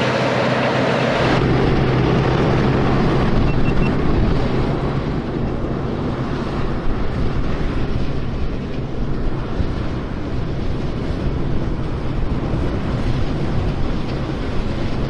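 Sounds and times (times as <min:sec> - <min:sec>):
combine diesel engine droning: 0:00.0 - 0:15.0.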